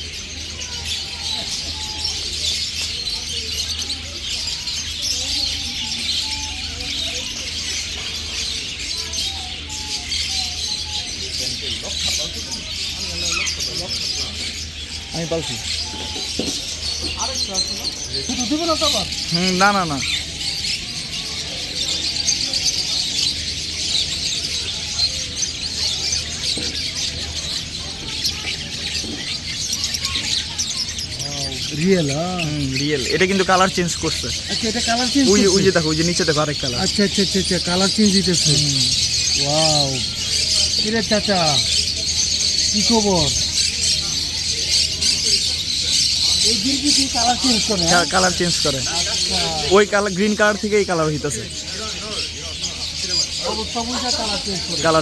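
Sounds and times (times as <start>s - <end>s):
caged birds chirping: 0.0s - 55.0s.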